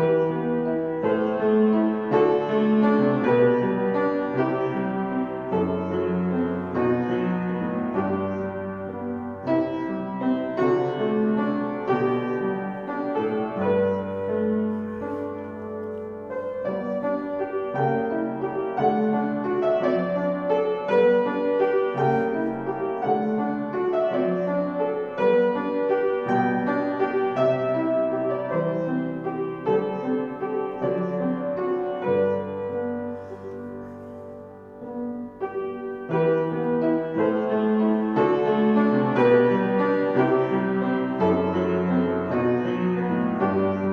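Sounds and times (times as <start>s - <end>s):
solo piano playing slow chords: 0.0s - 43.9s.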